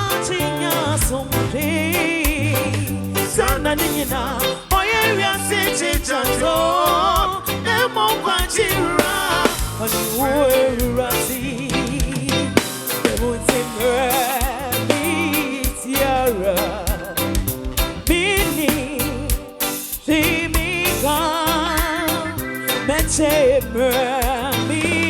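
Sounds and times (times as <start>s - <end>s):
gospel band music: 0.0s - 25.0s
person singing with vibrato: 0.0s - 25.0s.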